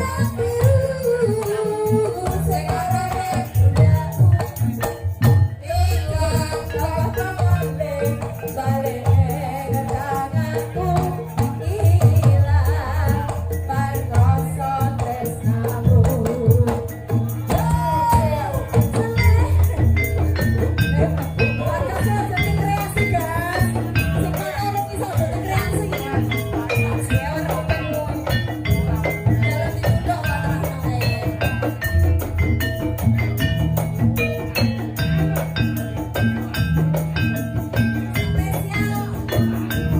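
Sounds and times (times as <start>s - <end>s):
live folk band music: 0.0s - 39.9s
rattling jingling percussion: 0.0s - 39.9s.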